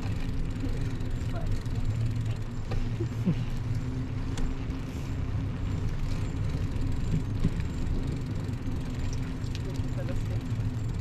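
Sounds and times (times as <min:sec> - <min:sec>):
bicycle tyre noise: 0:00.0 - 0:11.0
low hum: 0:00.0 - 0:11.0.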